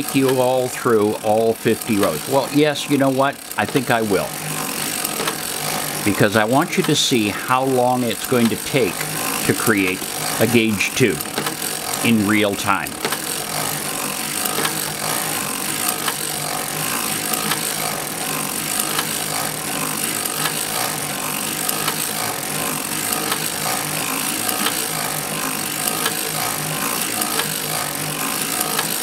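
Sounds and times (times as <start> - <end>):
knitting machine needles clattering: 0.0 - 29.0.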